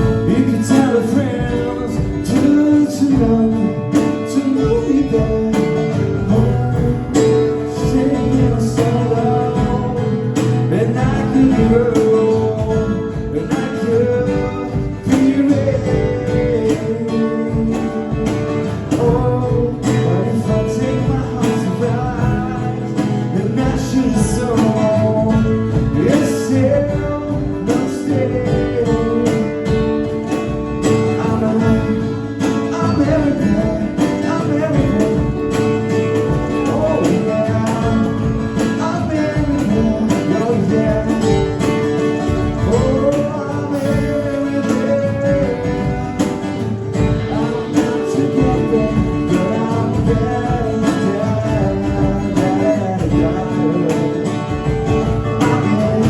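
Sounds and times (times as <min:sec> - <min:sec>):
acoustic guitars strumming: 0:00.0 - 0:56.0.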